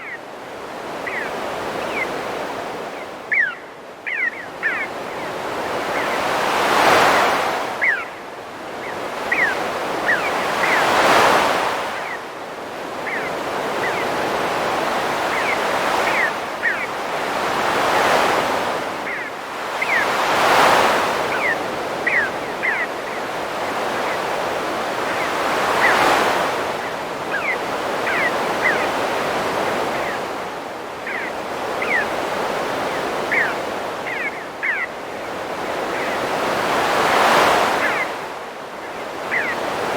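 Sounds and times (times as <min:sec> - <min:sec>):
ocean waves breaking on shore: 0:00.0 - 0:39.9
birds chirping: 0:00.8 - 0:39.9.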